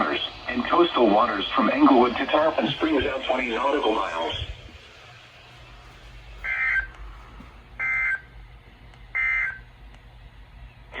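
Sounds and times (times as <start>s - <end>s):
low radio hiss: 0.0s - 11.0s.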